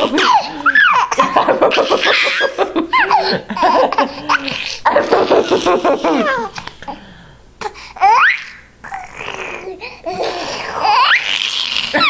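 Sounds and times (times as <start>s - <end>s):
baby laughing and squealing: 0.0s - 6.6s, 8.0s - 12.0s.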